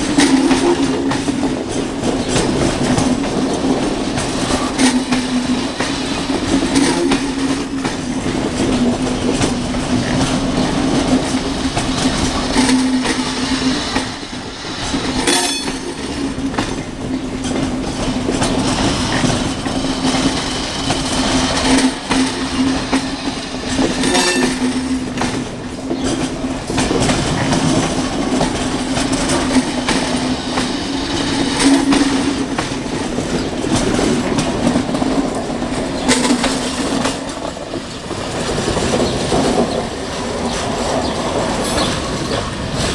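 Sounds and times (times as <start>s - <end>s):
diesel locomotive engine hum: 0.0s - 42.9s
train wheels clicking over rail joints: 0.0s - 42.9s.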